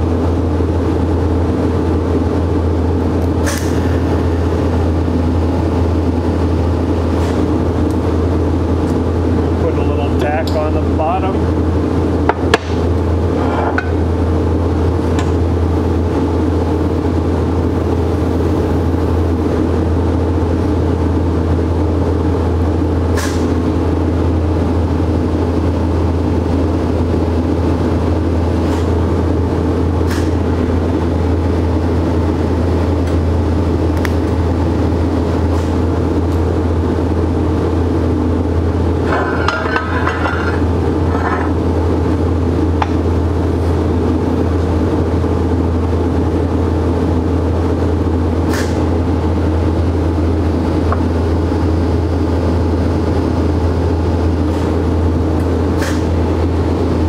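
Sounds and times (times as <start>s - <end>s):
welder electrical hum: 0.0s - 57.0s.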